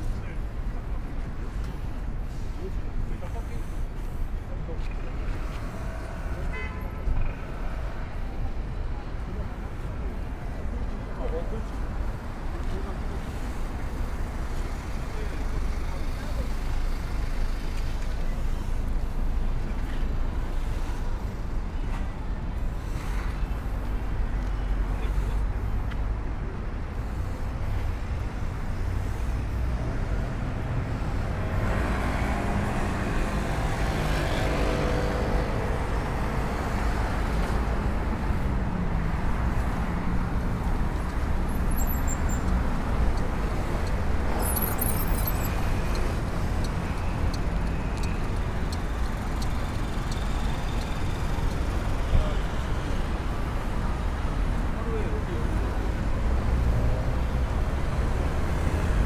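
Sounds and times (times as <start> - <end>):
city street traffic rumble: 0.0 - 59.0.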